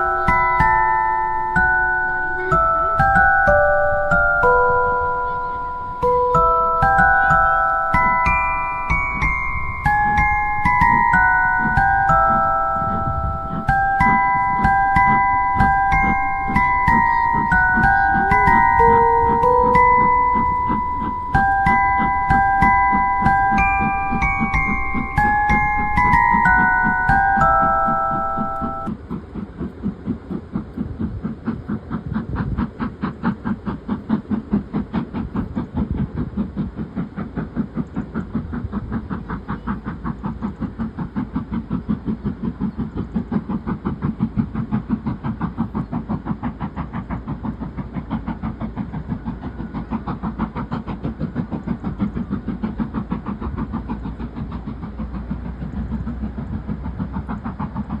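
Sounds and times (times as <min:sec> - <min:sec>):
steam hiss: 0:00.0 - 0:58.0
steam locomotive exhaust chuffing: 0:00.0 - 0:58.0.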